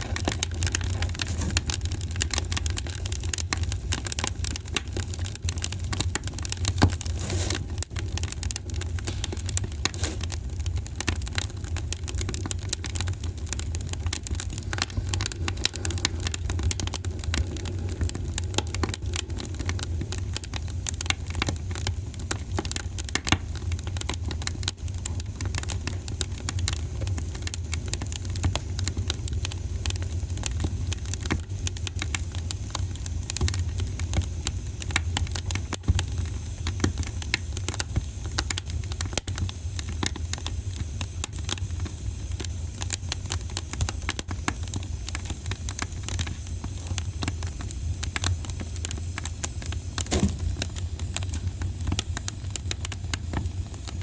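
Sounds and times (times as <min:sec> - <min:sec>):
fire low rumble: 0:00.0 - 0:54.0
wood fire crackling and popping: 0:00.0 - 0:54.0.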